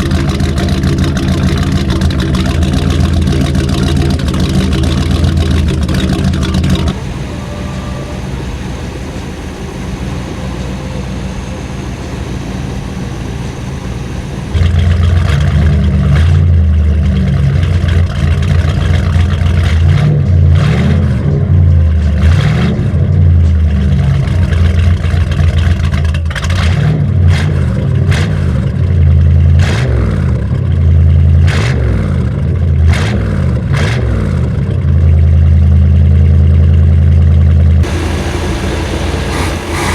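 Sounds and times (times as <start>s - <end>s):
boat engine revving: 0.0s - 35.3s, 37.7s - 39.9s.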